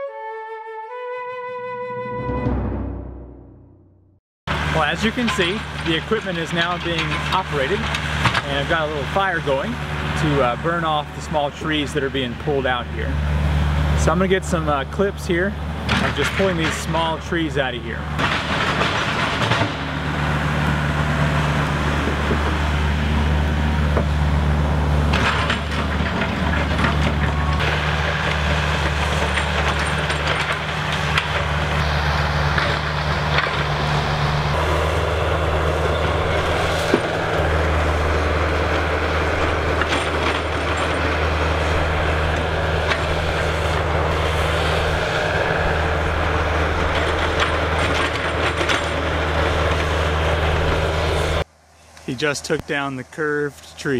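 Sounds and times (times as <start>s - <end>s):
excavator diesel engine under load: 4.5s - 53.9s.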